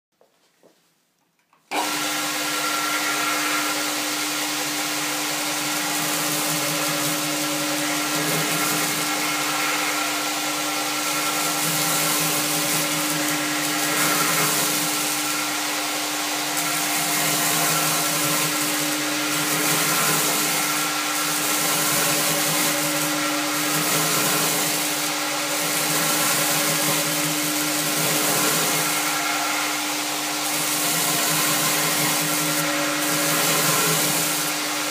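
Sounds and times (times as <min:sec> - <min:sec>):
belt grinder motor humming: 0:01.7 - 0:34.9.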